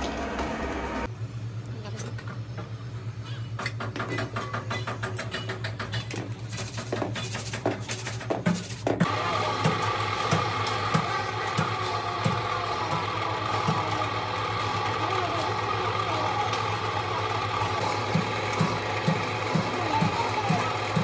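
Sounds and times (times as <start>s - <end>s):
workshop machine humming and whining: 0.0s - 21.0s.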